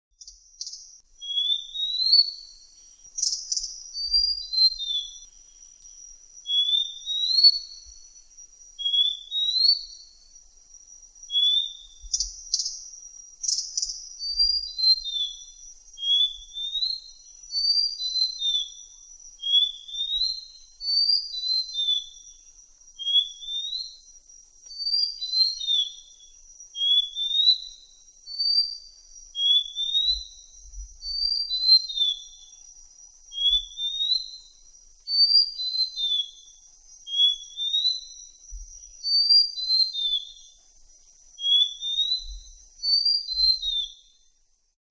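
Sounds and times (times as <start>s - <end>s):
bird whistling song: 0.2s - 10.4s, 11.2s - 40.6s, 41.4s - 44.3s.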